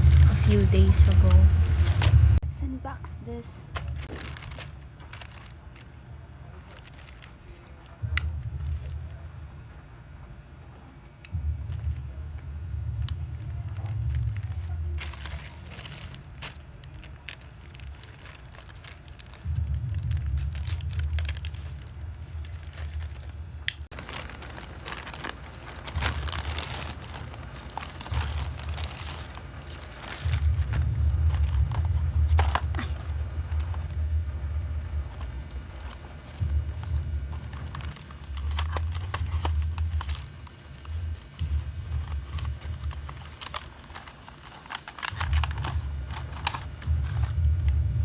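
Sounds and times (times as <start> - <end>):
packaging crinkling and tearing: 0.0 - 2.2, 3.7 - 9.2, 12.9 - 34.0, 34.8 - 47.4
low rumble: 0.0 - 48.0.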